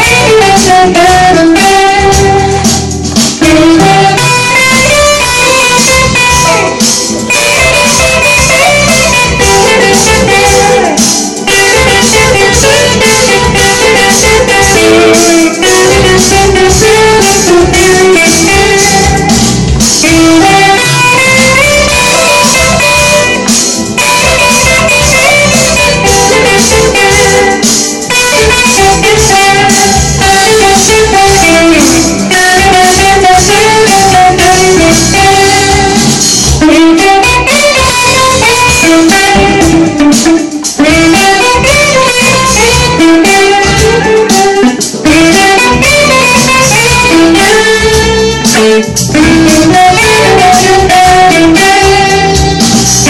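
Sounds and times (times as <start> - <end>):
electric guitar duet: 0.0 - 53.0.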